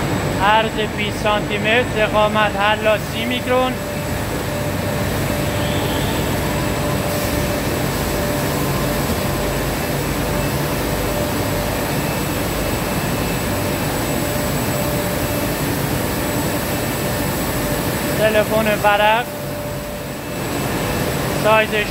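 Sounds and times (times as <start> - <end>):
film slitting machines running: 0.0 - 21.9.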